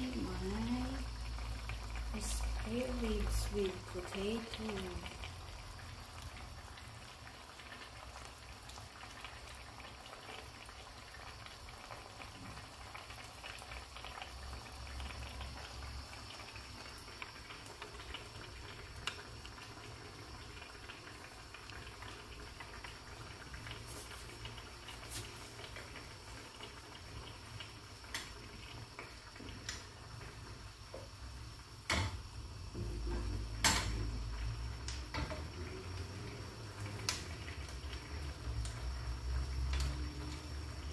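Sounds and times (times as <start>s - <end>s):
gravy bubbling in a pan: 0.0s - 40.9s.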